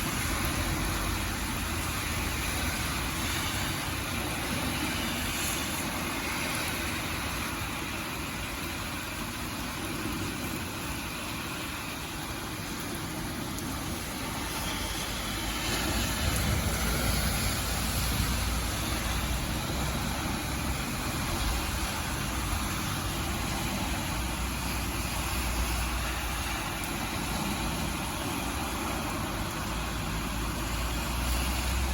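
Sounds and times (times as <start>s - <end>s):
steady rainfall: 0.0s - 31.9s.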